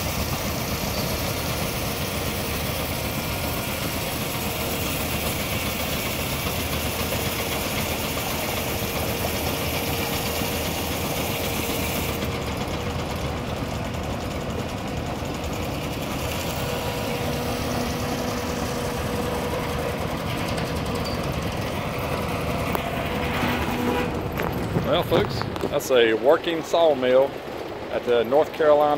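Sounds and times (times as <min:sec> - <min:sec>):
steam engine running: 0:00.0 - 0:28.9.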